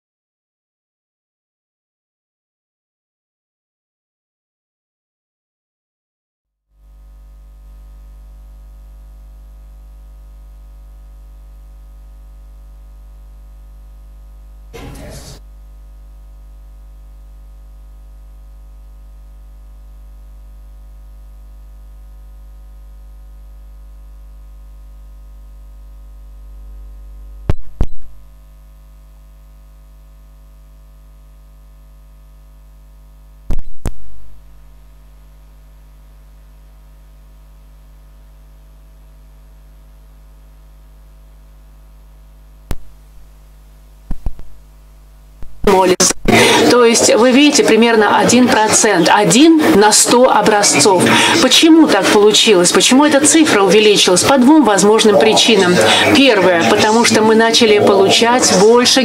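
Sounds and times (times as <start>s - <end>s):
electrical mains hum: 6.7s - 59.0s.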